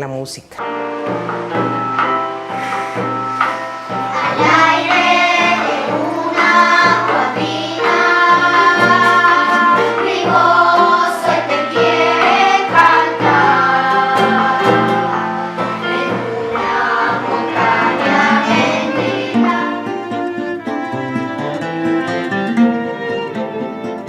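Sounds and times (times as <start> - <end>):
instrumental accompaniment: 0.6 - 24.0
choir singing held notes: 0.7 - 22.4.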